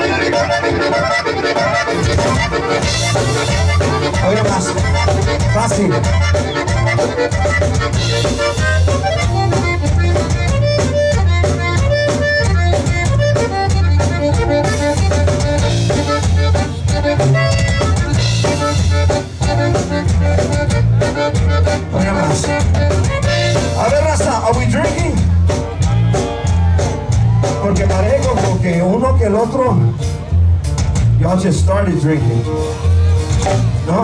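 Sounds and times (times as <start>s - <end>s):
accordion melody: 0.0s - 34.0s
bass guitar: 0.0s - 34.0s.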